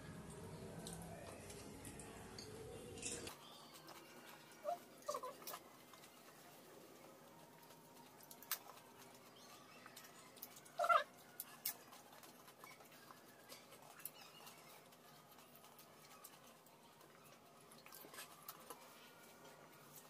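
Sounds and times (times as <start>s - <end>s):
faint crunching of food: 0.2s - 20.0s.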